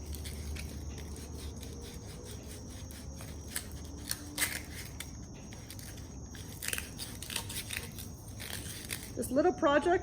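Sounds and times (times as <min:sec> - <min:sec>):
sandpaper scratching on metal: 0:00.0 - 0:09.2.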